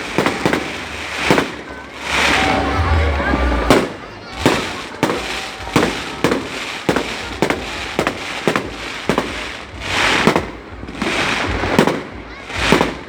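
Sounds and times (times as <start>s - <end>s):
fireworks bangs: 0.0s - 13.0s
fireworks hissing and crackling: 0.0s - 13.0s.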